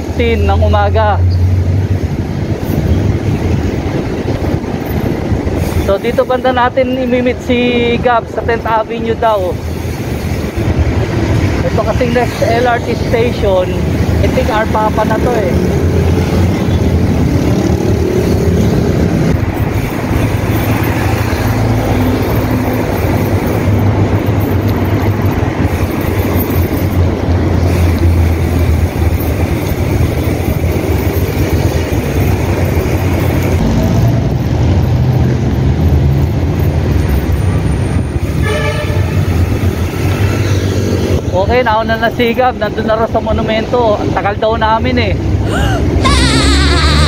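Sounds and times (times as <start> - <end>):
wind and road noise: 0.0 - 47.0.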